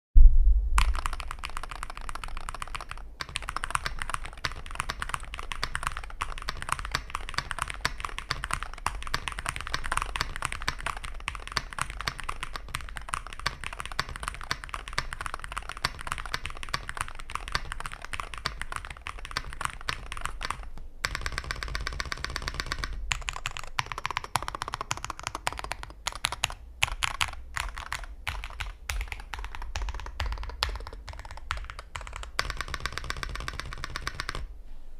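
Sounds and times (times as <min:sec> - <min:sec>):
keyboard keystroke clacks: 0:00.8 - 0:34.5.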